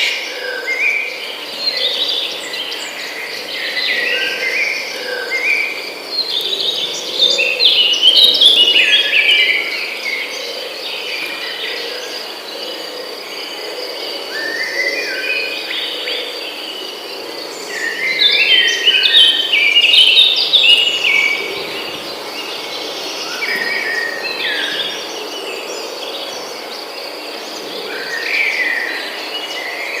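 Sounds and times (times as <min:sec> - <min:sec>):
birds chirping: 0:00.0 - 0:30.0
high insect trill: 0:00.0 - 0:30.0.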